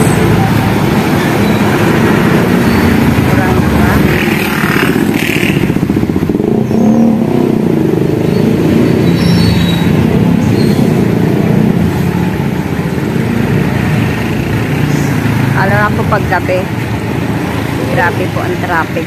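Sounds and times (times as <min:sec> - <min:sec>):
cars passing: 0:00.0 - 0:19.0
motorcycles passing: 0:00.0 - 0:19.0.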